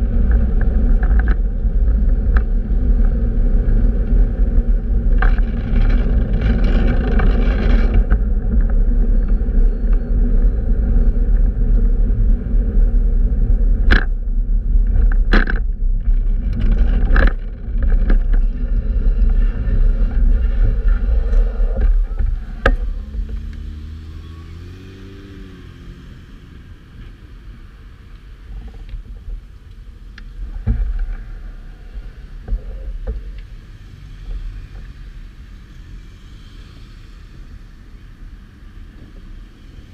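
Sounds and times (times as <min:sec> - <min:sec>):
road noise: 0:00.0 - 0:39.9
wind on microphone: 0:00.0 - 0:39.9.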